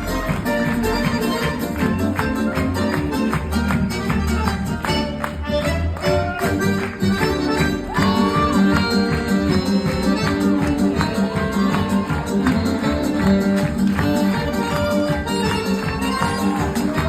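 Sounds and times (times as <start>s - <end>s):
music with sliding melody: 0.0s - 17.0s.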